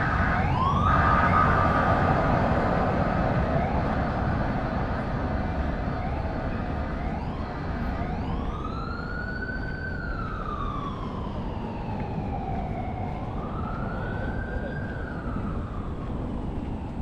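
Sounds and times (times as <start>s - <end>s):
emergency siren wailing: 0.0s - 17.0s
steady low rumble: 0.0s - 17.0s.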